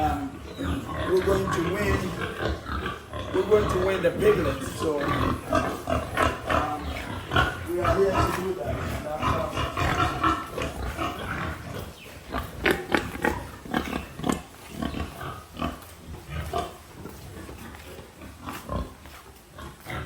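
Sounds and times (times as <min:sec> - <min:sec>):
pigs grunting and squealing: 0:00.0 - 0:20.0.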